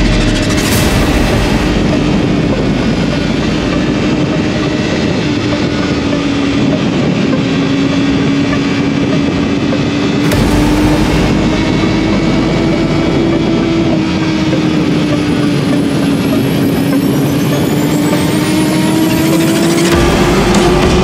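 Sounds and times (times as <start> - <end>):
motorcycle engine running: 0.0 - 21.0
wind noise rushing: 0.0 - 21.0.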